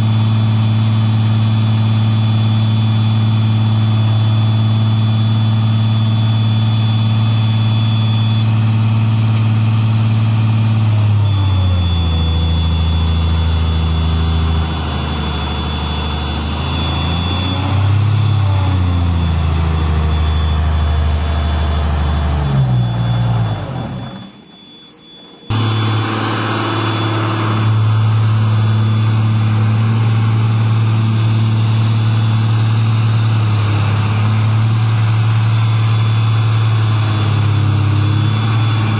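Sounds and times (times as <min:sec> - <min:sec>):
mining machine diesel engine: 0:00.0 - 0:38.9
faint high whine: 0:01.6 - 0:38.9.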